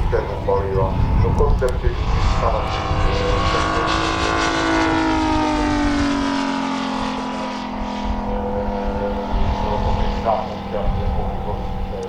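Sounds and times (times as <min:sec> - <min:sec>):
model airplane engine in flight: 0:00.0 - 0:12.0.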